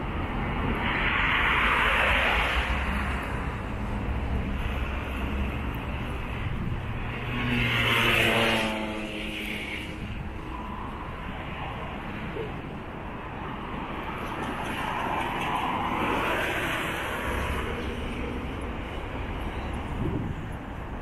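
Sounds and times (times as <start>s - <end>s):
traffic rumble: 0.0s - 21.0s
vehicle passing: 0.6s - 20.6s.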